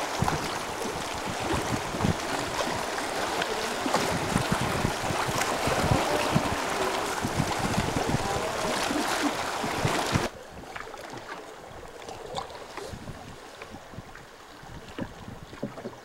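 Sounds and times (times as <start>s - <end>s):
wind buffeting microphone: 0.0s - 10.9s, 11.6s - 16.0s
river water rushing: 0.0s - 13.6s
faint splashes and ticks: 0.0s - 16.0s.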